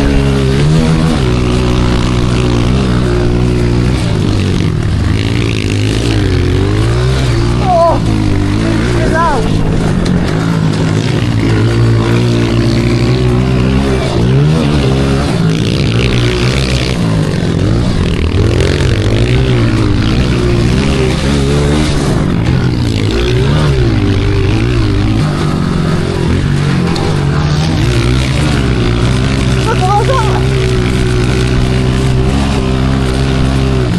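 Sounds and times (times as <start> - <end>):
pit bike engine revving: 0.0 - 33.9.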